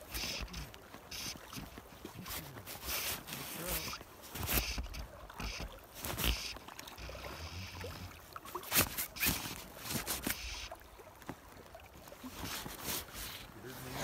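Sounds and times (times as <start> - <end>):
water lapping and sloshing: 0.0 - 14.0.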